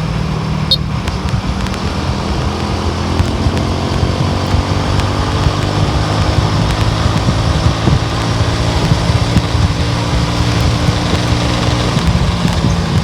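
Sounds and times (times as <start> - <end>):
road and wind noise: 0.0 - 13.0
vehicle engine hum: 0.0 - 13.0
faint ticks: 0.7 - 13.0.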